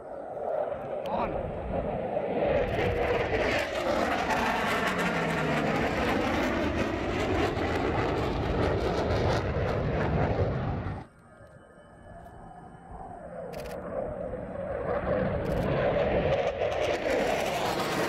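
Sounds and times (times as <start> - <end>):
fighter jet passing: 0.0 - 18.0.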